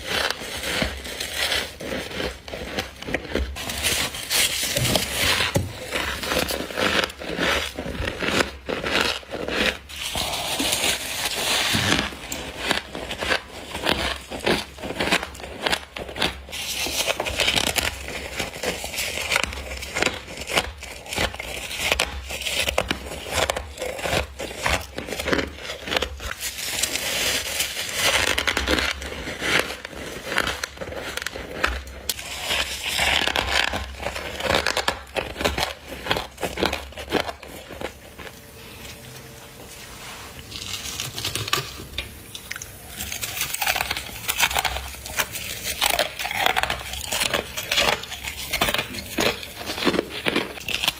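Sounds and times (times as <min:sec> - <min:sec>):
crunchy biting and chewing: 0:00.0 - 0:39.4, 0:40.4 - 0:50.9.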